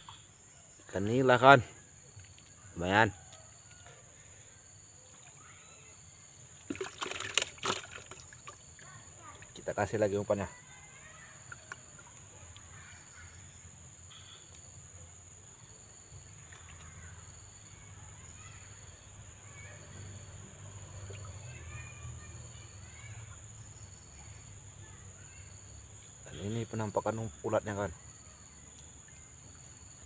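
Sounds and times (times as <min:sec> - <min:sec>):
faint bird chirps: 0:00.0 - 0:06.5, 0:08.8 - 0:30.0
high-pitched insect chorus: 0:00.0 - 0:30.0.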